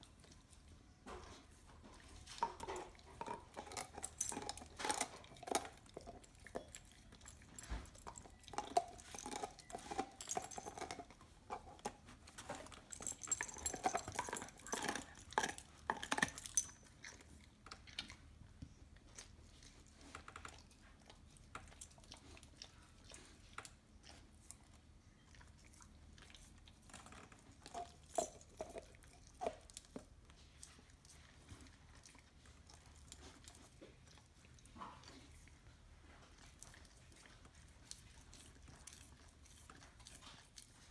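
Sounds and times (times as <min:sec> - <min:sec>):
dog gnawing bone: 0:02.0 - 0:40.9.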